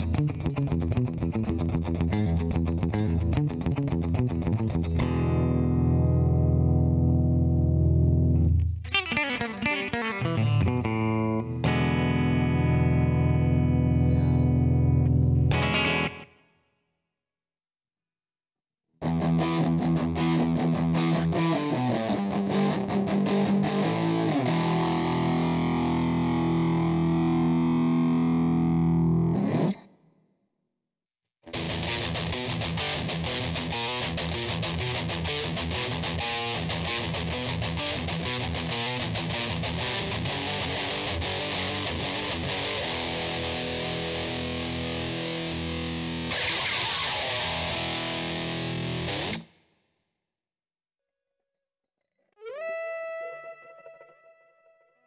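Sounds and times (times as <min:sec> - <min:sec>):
electric guitar chords: 0:00.0 - 0:16.4, 0:19.0 - 0:29.9, 0:31.5 - 0:49.5, 0:52.4 - 0:55.0
picked guitar notes: 0:00.0 - 0:16.4, 0:19.0 - 0:29.9, 0:31.5 - 0:49.5, 0:52.4 - 0:55.0.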